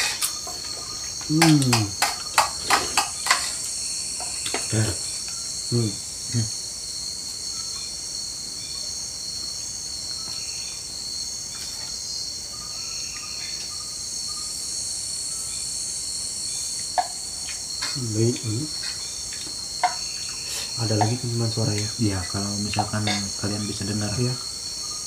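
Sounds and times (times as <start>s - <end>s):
crickets and insects trilling: 0.0s - 25.0s.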